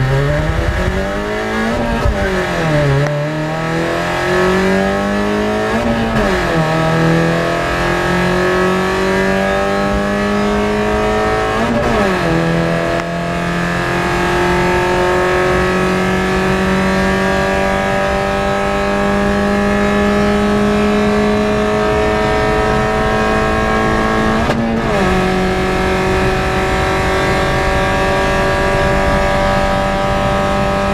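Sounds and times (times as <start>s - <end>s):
car engine accelerating: 0.0s - 30.9s.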